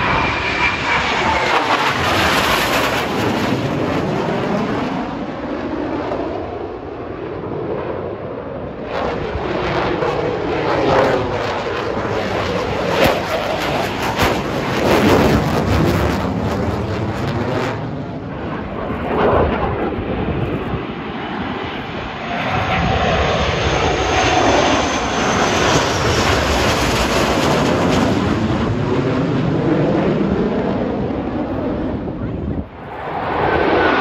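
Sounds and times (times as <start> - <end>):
jet engines roaring overhead: 0.0 - 34.0.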